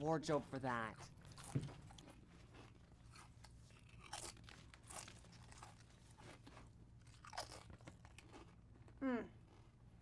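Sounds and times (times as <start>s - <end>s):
person chewing chips: 0.9s - 10.0s.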